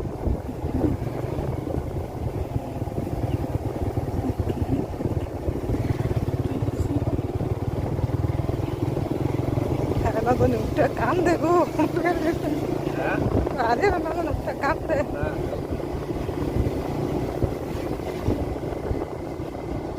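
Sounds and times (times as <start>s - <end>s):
motorcycle engine rumble: 0.0s - 19.9s.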